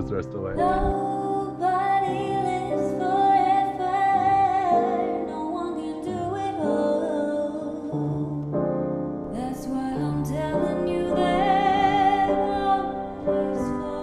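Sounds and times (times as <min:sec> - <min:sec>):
person singing: 0:00.2 - 0:08.5, 0:09.4 - 0:14.0.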